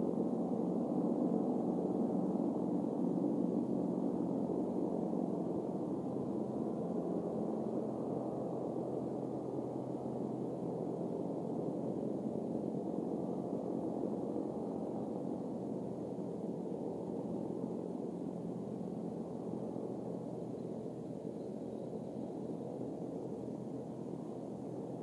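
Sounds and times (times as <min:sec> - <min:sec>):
low rushing background noise: 0:00.1 - 0:25.0.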